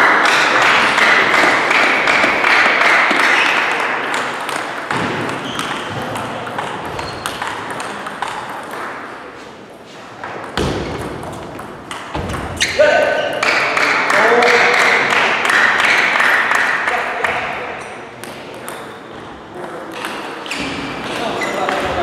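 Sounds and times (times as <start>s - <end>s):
noisy din in a reverberant hall: 0.0s - 22.0s.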